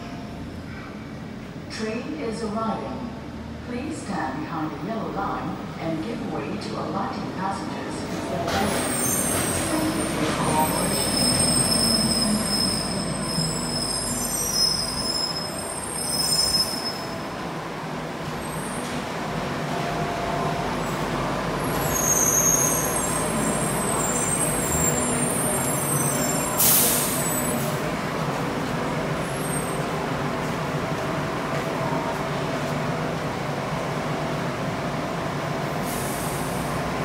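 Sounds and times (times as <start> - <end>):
light rail vehicle rumbling: 0.0 - 37.0.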